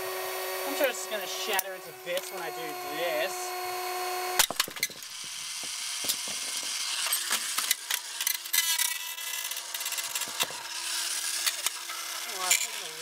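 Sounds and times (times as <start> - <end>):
hand mixer motor grinding: 0.0 - 13.0
steady motor hum: 0.0 - 13.0.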